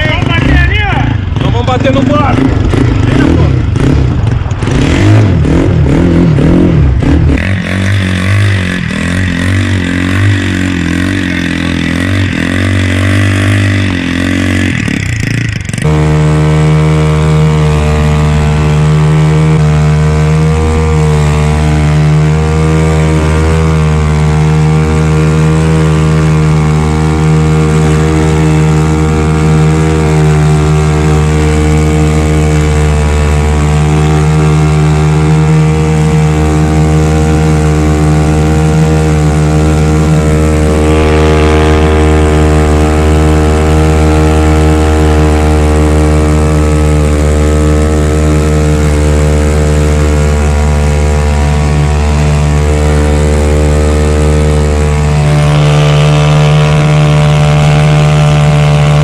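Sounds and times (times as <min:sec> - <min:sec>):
speedboat engine running: 0:00.0 - 0:59.0.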